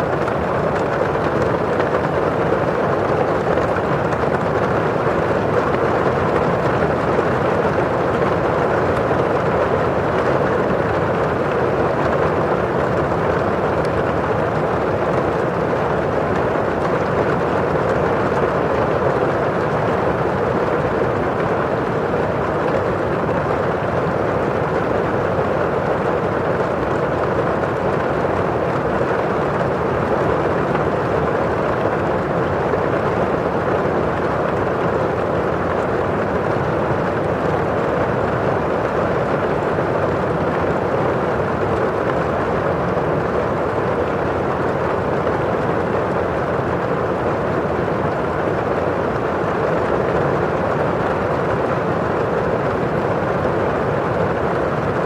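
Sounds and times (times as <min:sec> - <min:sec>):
rain on a window pane: 0:00.0 - 0:55.0.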